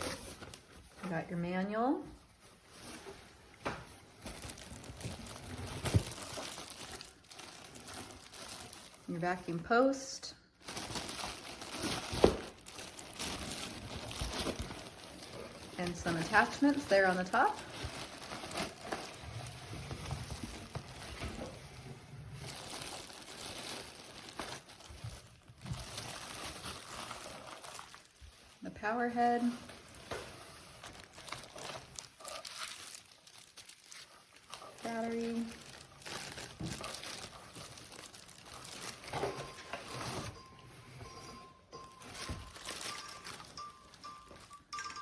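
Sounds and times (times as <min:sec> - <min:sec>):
packaging rustling and crinkling: 0:00.0 - 0:01.1, 0:02.2 - 0:09.6, 0:10.6 - 0:45.0.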